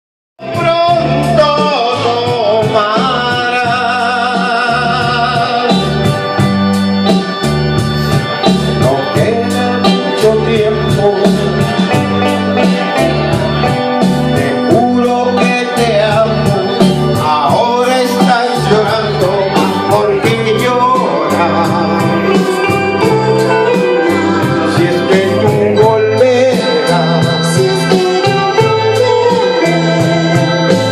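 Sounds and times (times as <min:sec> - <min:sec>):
organ-like keyboard chords: 0:00.4 - 0:30.9
steady beat: 0:00.4 - 0:30.9
stepping bass line: 0:00.4 - 0:30.9.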